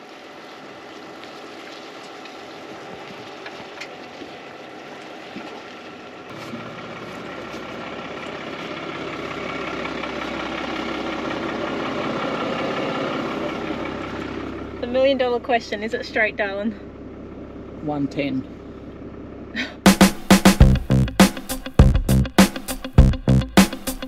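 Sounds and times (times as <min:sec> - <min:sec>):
diesel engine working: 0:00.0 - 0:24.0.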